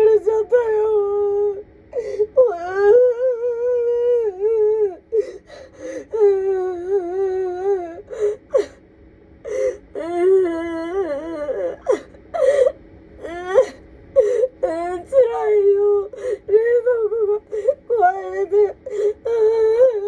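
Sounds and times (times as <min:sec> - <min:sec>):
woman sobbing and wailing: 0:00.0 - 0:08.8, 0:09.5 - 0:20.0.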